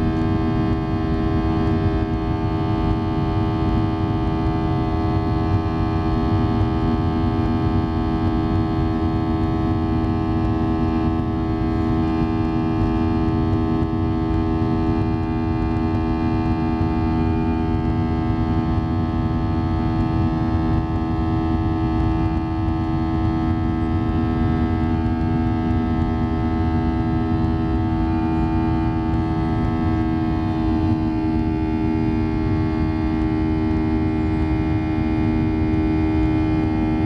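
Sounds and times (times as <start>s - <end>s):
jet engine drone in cabin: 0.0s - 37.0s.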